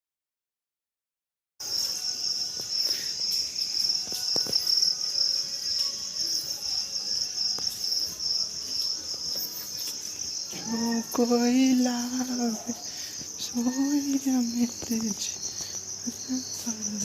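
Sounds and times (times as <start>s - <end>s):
insect chorus chirring: 1.6s - 17.0s.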